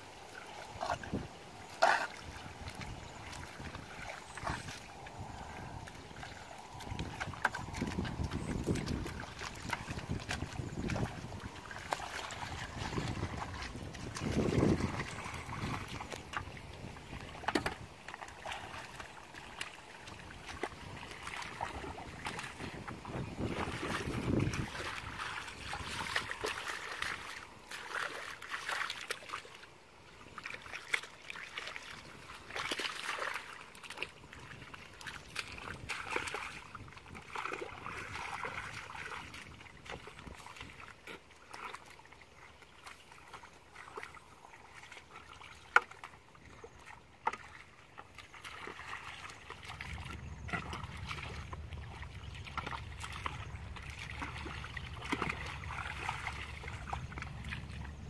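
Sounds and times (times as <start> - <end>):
hands squelching through mud and water: 0.0 - 58.0.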